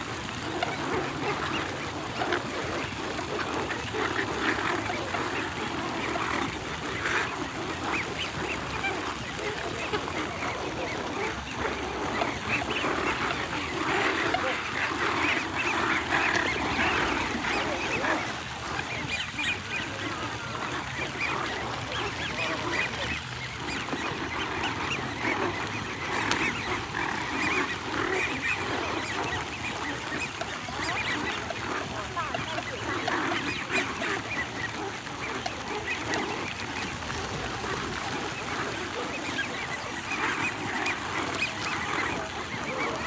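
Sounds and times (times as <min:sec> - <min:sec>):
flock of waterfowl calling: 0:00.0 - 0:43.0.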